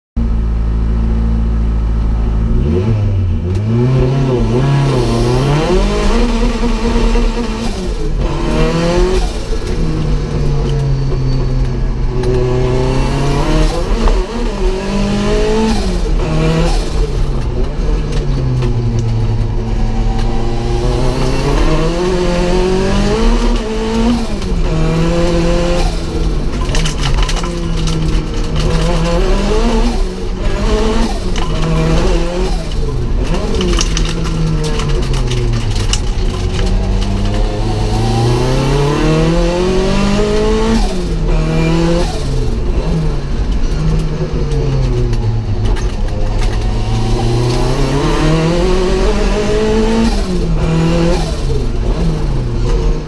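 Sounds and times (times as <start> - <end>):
race car engine accelerating: 2.2 - 53.0.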